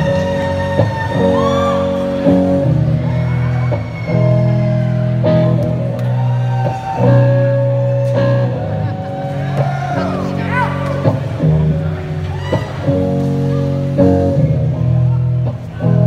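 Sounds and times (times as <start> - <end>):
crowd shouting and whooping: 0.0 - 16.0
electric guitar chords: 0.0 - 16.0.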